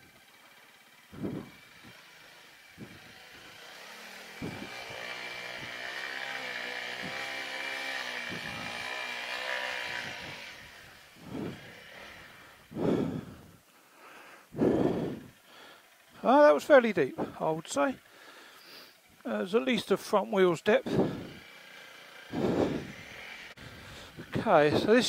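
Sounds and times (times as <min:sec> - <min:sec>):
motorcycle engine revving: 0:00.0 - 0:13.7, 0:14.4 - 0:25.0.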